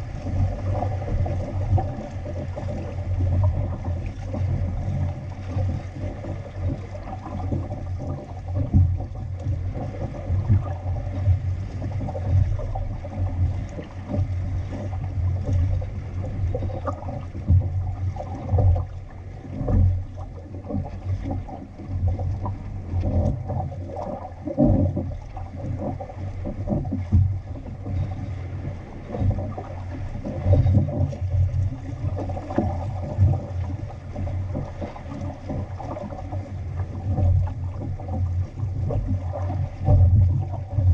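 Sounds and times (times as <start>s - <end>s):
water splashing along a hull: 0.0s - 40.9s
wind rumble on microphone: 0.0s - 40.9s.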